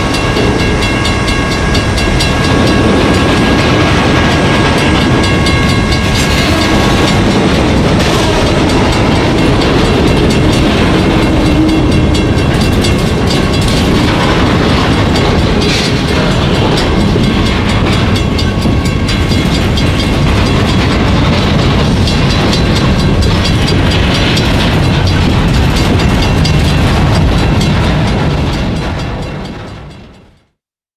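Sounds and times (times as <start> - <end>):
train wheels clattering over rail joints: 0.0 - 30.4
diesel locomotive engine: 0.0 - 30.6.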